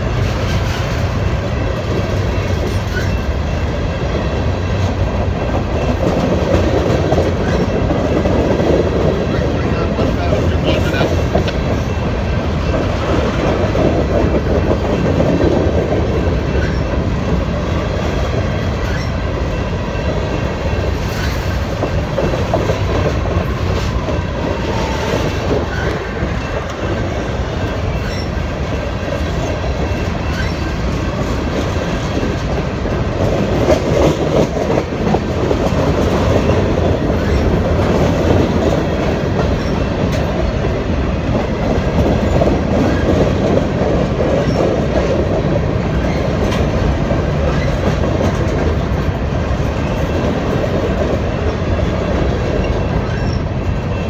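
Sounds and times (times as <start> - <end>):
steel wheels rumbling on rail: 0.0 - 54.0
wheels clicking over rail joints: 0.0 - 54.0.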